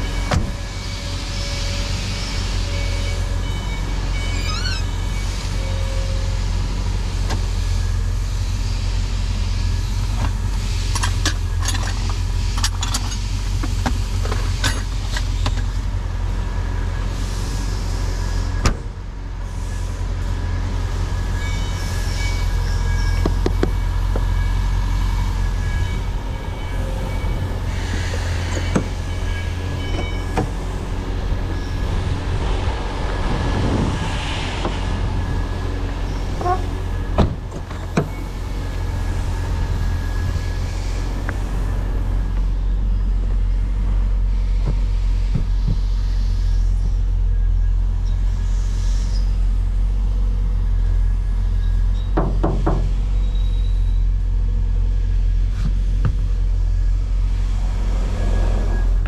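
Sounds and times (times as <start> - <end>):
car engine drone: 0.0 - 59.0
road noise: 0.0 - 59.0.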